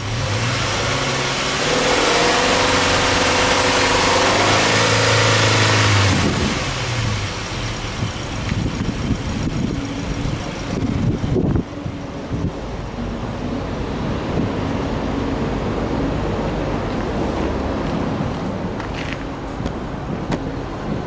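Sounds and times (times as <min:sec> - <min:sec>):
car engine revving: 0:00.0 - 0:18.4.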